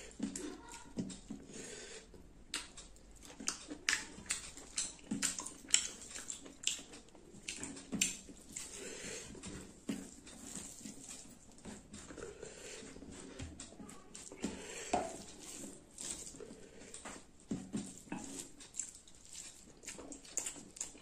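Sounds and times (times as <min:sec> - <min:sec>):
rice squishing by hand: 0:00.0 - 0:21.0
wet chewing and lip smacks: 0:02.1 - 0:21.0.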